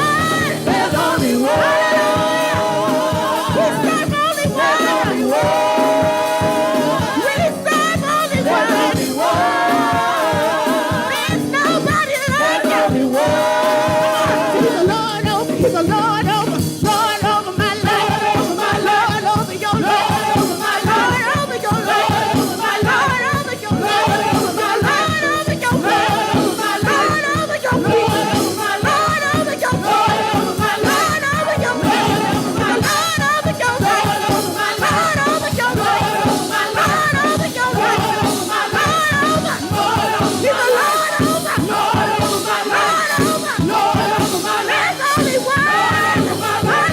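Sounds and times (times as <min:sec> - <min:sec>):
gospel choir singing over fast beat: 0:00.0 - 0:46.9.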